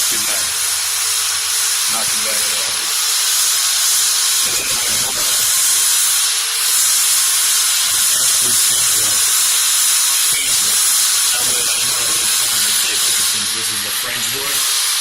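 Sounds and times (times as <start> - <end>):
loud steady hiss: 0.0 - 15.0.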